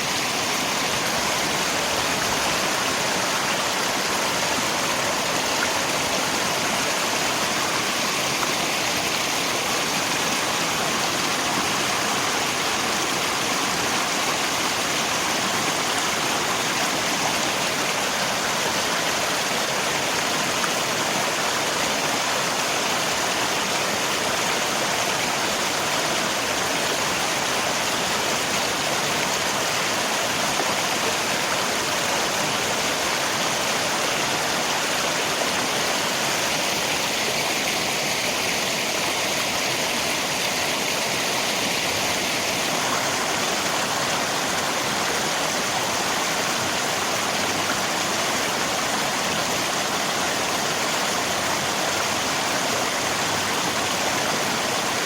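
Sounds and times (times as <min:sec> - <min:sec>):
rain: 0:00.0 - 0:55.0
river water flowing: 0:00.0 - 0:55.0.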